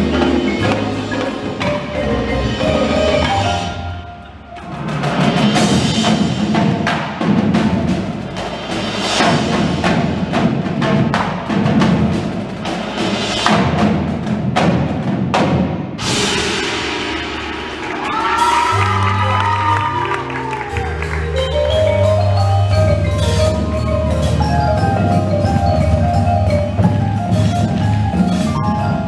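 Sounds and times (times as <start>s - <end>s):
marimbas and mallet percussion: 0.0s - 13.8s, 16.2s - 29.0s
drumline playing: 0.0s - 29.0s.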